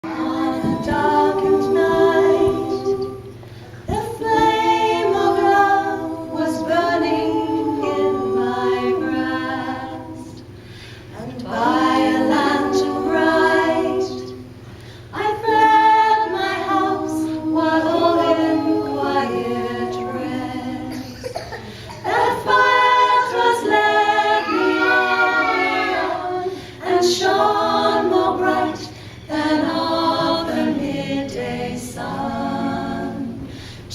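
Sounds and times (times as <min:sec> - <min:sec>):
voices singing a cappella: 0:00.0 - 0:33.9.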